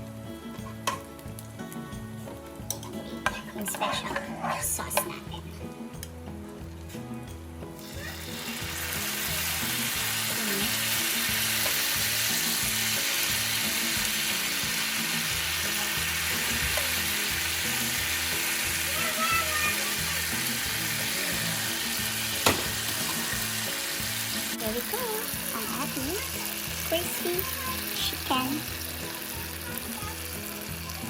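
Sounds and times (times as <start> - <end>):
gravy sizzling on hot plate: 0.0 - 31.0.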